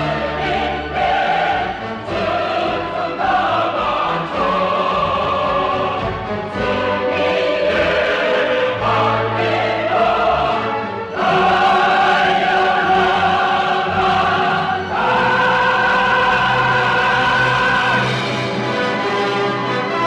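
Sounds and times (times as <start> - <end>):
choir singing sustained chords: 0.0 - 20.0
orchestra: 0.0 - 20.0.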